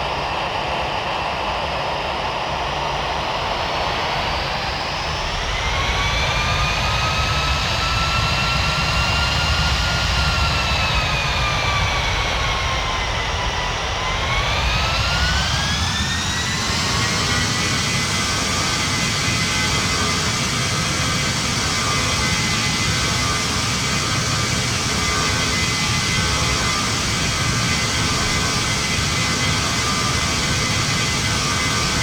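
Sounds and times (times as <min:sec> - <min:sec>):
jet engine rush and whine: 0:00.0 - 0:32.0.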